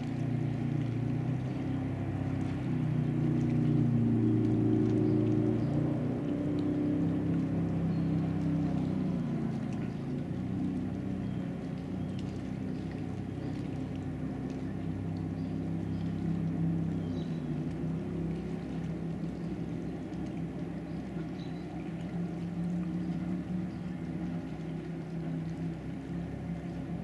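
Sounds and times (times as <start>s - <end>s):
distant boat engine droning: 0.0s - 27.0s.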